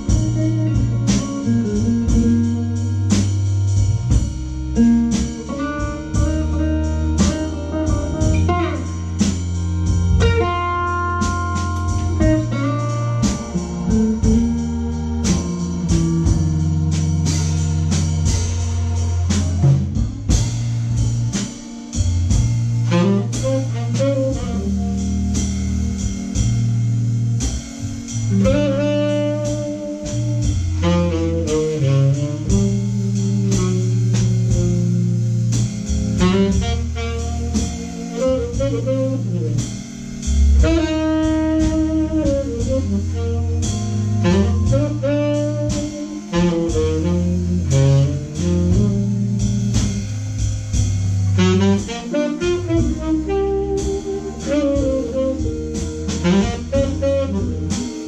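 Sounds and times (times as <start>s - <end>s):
drums: 0.0s - 58.0s
tenor saxophone: 0.0s - 58.0s.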